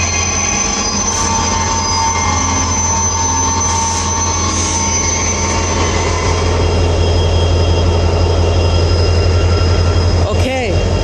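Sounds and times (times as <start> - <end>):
freight train rumbling: 0.0 - 11.0
high wheel squeals: 0.0 - 11.0.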